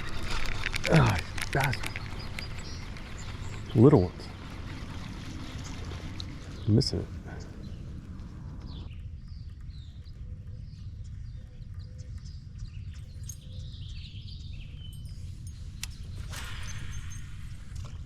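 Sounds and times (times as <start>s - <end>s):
birds chirping: 0.0s - 18.0s
low background rumble: 0.0s - 18.0s.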